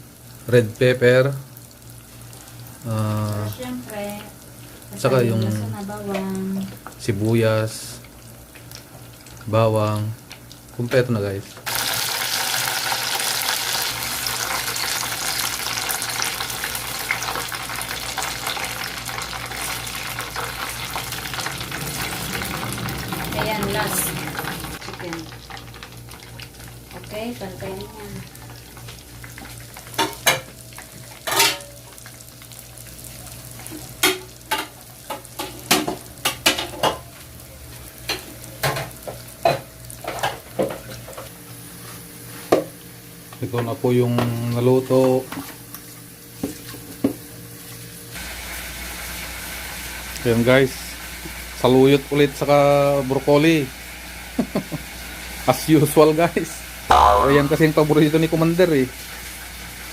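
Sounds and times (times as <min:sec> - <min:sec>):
food sizzling in hot oil: 0:00.0 - 0:43.3, 0:43.9 - 0:59.9.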